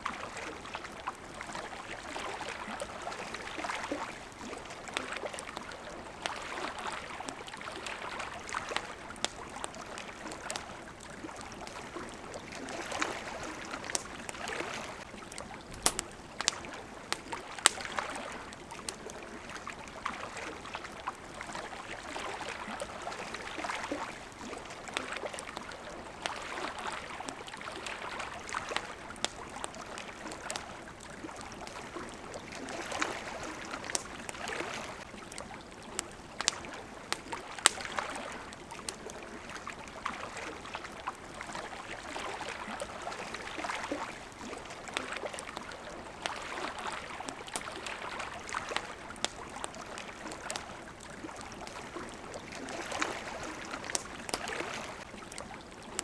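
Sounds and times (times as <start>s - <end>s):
campfire popping and crackling: 0.0s - 56.0s
water lapping and splashing: 0.0s - 56.0s.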